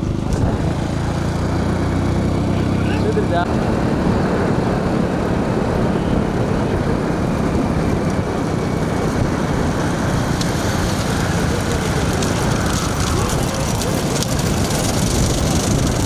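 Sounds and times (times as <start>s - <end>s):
motorcycle engines running: 0.0s - 16.0s
wind rushing on microphone: 0.0s - 16.0s.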